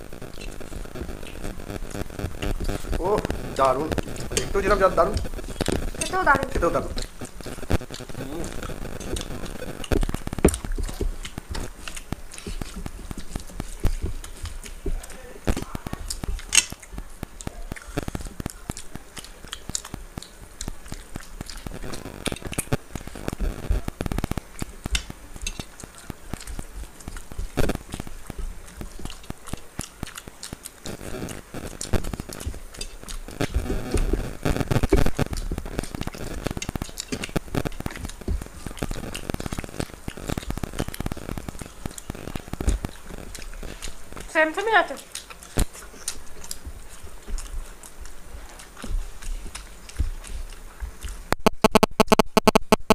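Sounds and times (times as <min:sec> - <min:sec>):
fingers mixing rice on steel plates: 0:00.0 - 0:51.3
chewing and lip-smacking: 0:00.0 - 0:52.2.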